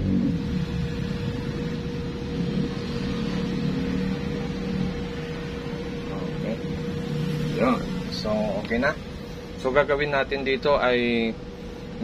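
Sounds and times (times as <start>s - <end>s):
mid-pitched hum: 0.0s - 12.0s
steady low rumble: 0.0s - 12.0s.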